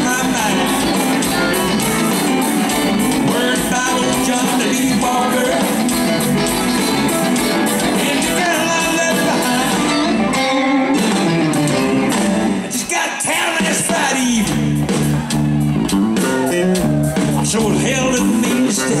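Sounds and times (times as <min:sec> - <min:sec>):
electric guitar: 0:00.0 - 0:19.0
rock band playing live: 0:00.0 - 0:19.0.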